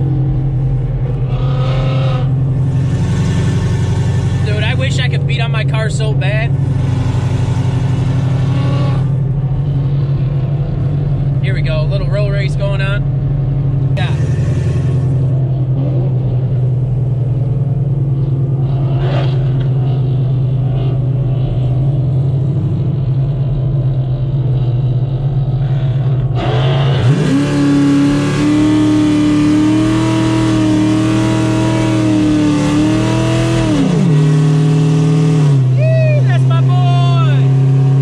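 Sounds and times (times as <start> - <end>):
car engine revving high: 0.0 - 13.0, 13.7 - 23.2, 24.3 - 38.0
car engine droning: 0.0 - 38.0.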